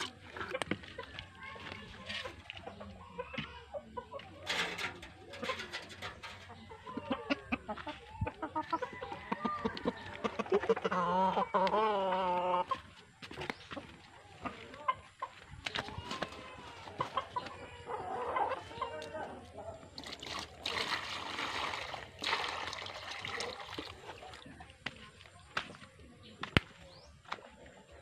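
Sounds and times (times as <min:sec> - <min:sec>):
chickens clucking: 0:00.0 - 0:22.3, 0:23.0 - 0:28.0.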